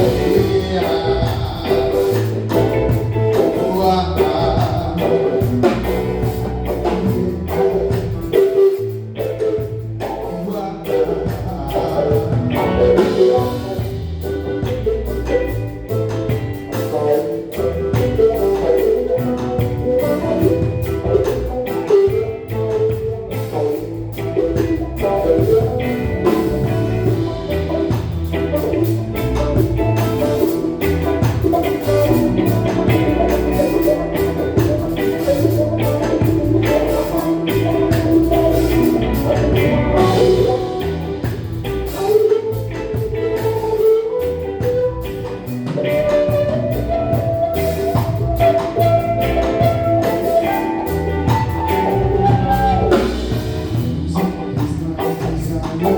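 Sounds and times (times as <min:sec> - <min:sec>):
bass: 0:00.0 - 0:55.9
drum kit beat: 0:00.0 - 0:55.9
electric guitar: 0:00.0 - 0:55.9
keyboard: 0:00.0 - 0:55.9.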